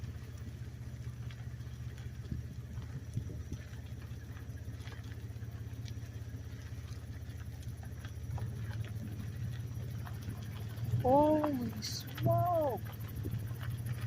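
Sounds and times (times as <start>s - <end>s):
faint ticks: 0.0s - 14.0s
vehicle engine idling: 0.0s - 14.0s.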